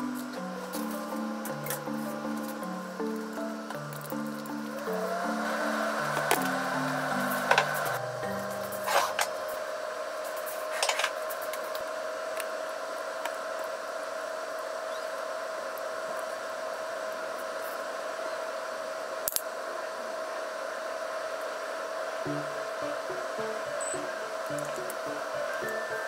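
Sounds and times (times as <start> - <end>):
kitchen ventilation fan whir: 0.0 - 26.0.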